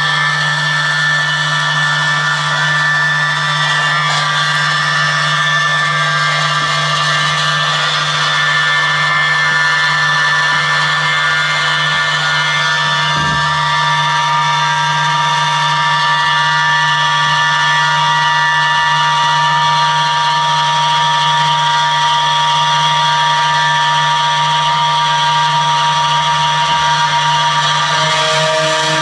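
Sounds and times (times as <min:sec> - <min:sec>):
electric guitar drone: 0:00.0 - 0:29.0.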